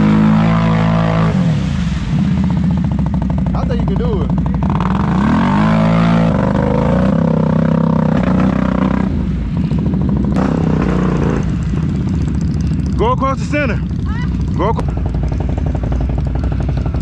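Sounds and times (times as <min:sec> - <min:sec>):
quad engine revving: 0:00.0 - 0:17.0
tyres churning through mud: 0:00.0 - 0:17.0.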